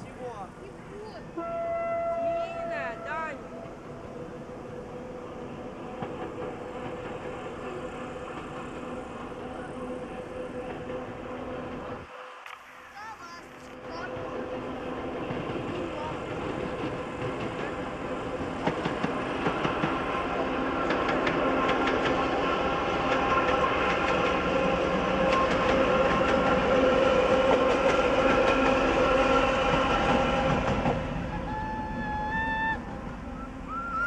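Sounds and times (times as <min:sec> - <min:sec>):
diesel locomotive engine running: 0:02.2 - 0:12.4, 0:13.2 - 0:34.0.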